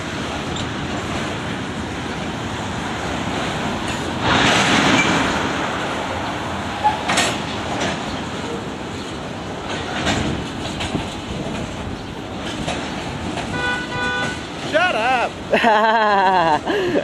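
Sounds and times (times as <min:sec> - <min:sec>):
freight train rolling past: 0:00.0 - 0:16.7
wheels clicking over rail joints: 0:00.0 - 0:17.0.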